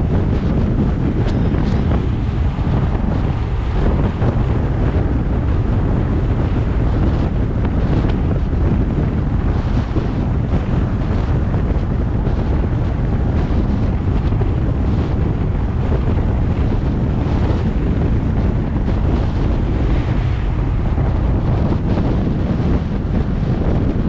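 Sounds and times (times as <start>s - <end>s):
low rumble: 0.0s - 24.0s
wind rushing over microphone: 0.0s - 24.0s.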